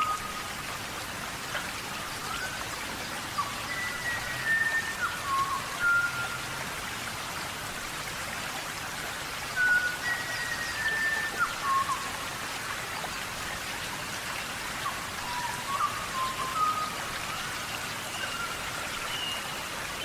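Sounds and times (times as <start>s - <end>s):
rain falling on foliage: 0.0s - 20.0s.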